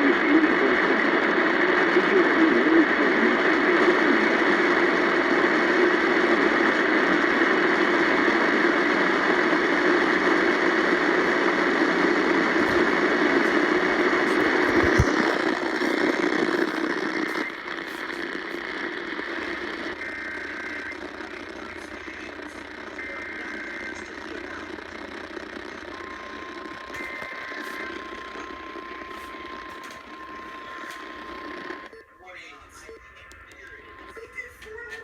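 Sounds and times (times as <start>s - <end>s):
radio static hiss: 0.0s - 35.0s.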